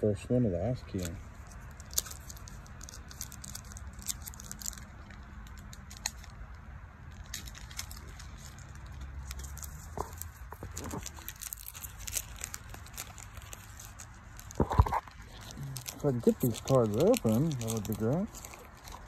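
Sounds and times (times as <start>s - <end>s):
low steady rumble: 0.0s - 19.0s
foil wrapper crinkling: 0.9s - 19.0s.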